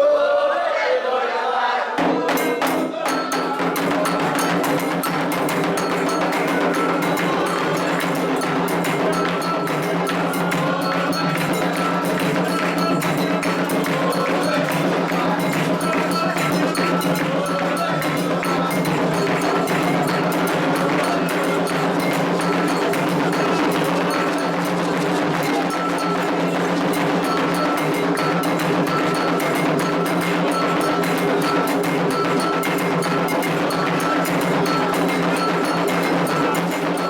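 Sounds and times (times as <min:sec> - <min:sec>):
hand drums playing: 0:02.0 - 0:37.0
iron bell ringing pattern: 0:02.4 - 0:37.0.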